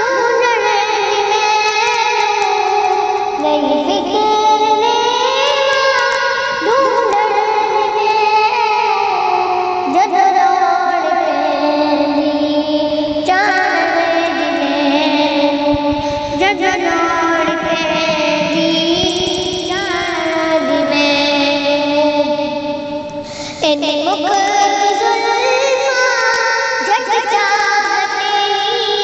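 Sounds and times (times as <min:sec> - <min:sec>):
person singing long ornamented notes: 0:00.0 - 0:29.0.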